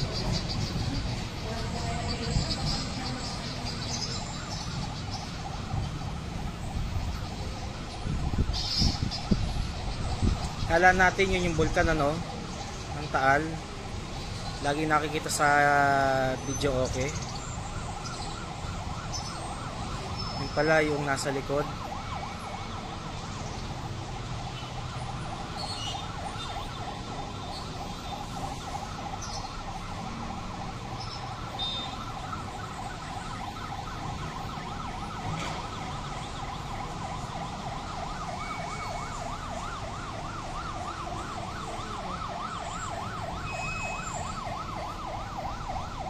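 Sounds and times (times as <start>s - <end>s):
emergency siren yelping: 0.0s - 46.0s.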